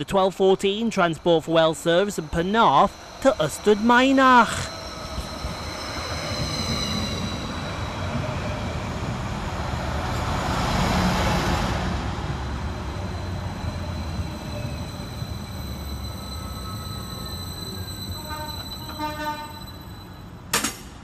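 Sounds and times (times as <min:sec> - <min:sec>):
train high whine: 0:00.0 - 0:20.6
train wheels rumbling: 0:00.0 - 0:21.0.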